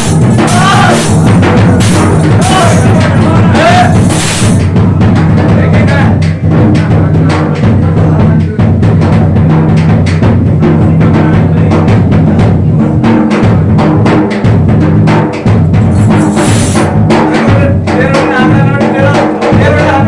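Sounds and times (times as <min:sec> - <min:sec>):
fast steady drumming: 0:00.0 - 0:20.0.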